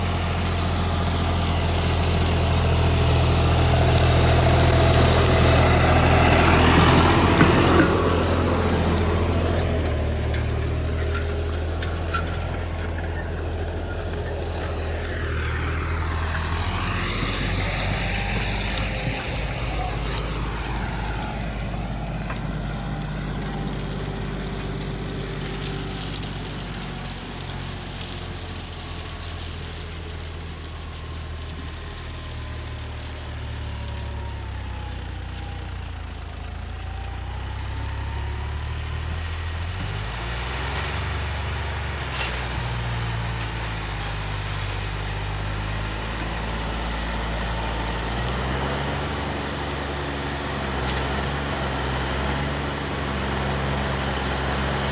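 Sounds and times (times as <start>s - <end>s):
tractor diesel engine droning: 0.0s - 54.9s.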